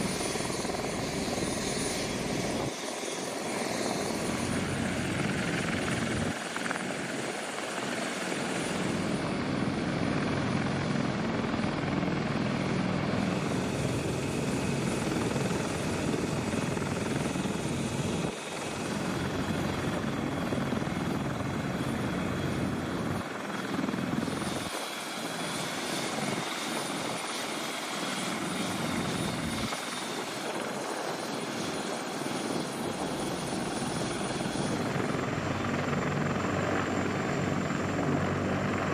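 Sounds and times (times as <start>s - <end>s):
helicopter turbines and rotors: 0.0s - 38.9s.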